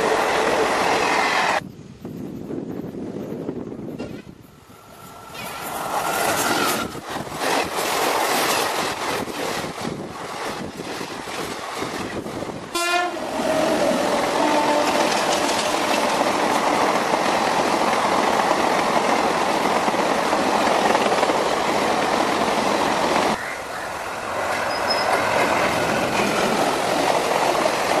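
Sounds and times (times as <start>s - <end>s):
train clatter and squeal: 0.0s - 12.5s, 13.6s - 28.0s
train wheels rumbling on rails: 0.0s - 28.0s.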